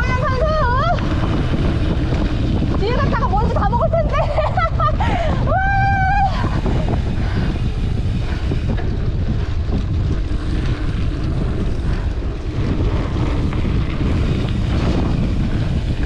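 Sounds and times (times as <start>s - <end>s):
tyres rumbling on dirt road: 0.0s - 16.0s
wind rushing over microphone: 0.0s - 16.0s.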